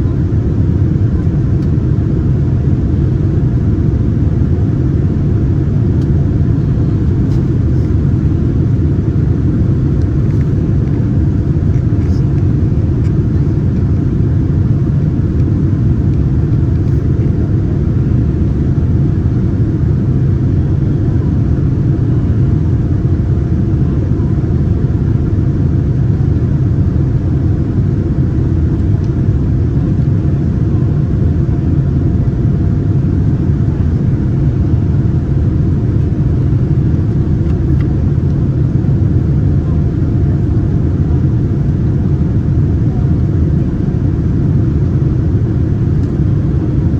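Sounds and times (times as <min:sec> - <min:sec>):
airplane cabin rumble: 0:00.0 - 0:46.9
faint steady hum: 0:00.0 - 0:46.9.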